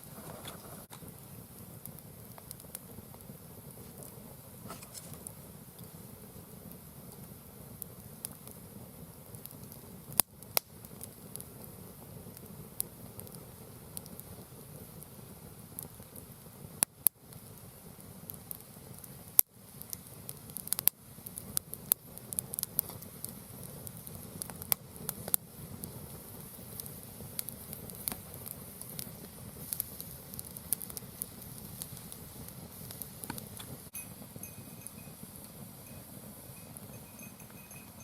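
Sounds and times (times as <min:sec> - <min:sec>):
firewood crackling and popping: 0:00.0 - 0:38.0.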